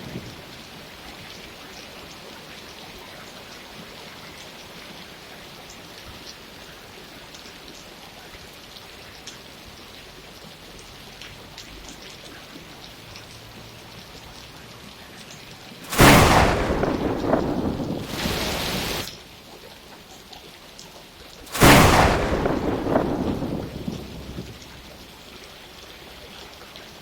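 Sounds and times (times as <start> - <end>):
steady rain with drops ticking: 0.0 - 27.0.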